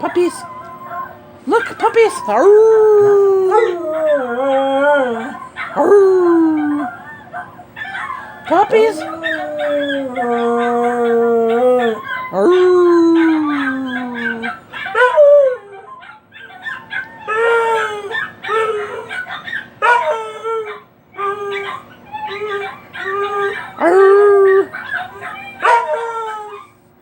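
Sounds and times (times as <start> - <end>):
dog howling and yipping: 0.0 - 26.8.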